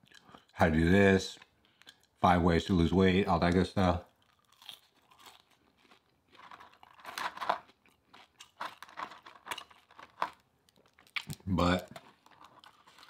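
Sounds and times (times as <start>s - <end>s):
chewing food: 0.0s - 0.6s, 1.3s - 2.2s, 4.0s - 13.0s.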